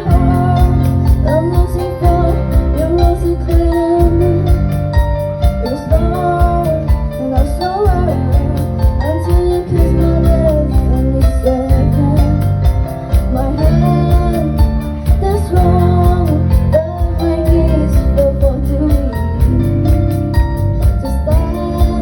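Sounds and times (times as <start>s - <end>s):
live band playing pop ballad: 0.0s - 22.0s
woman singing: 0.0s - 22.0s.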